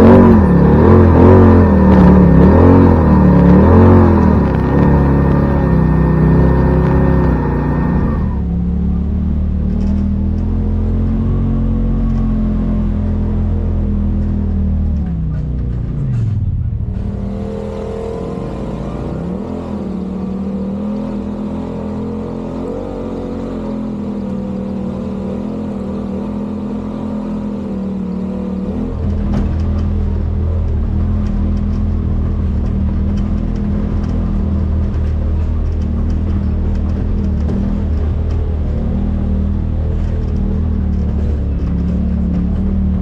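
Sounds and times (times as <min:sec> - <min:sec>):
utility vehicle engine running: 0:00.0 - 0:43.0.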